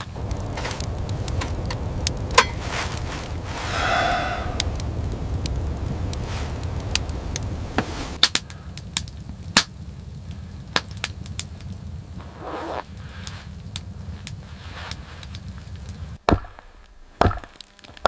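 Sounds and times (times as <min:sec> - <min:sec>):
low rumble: 0:00.0 - 0:14.5.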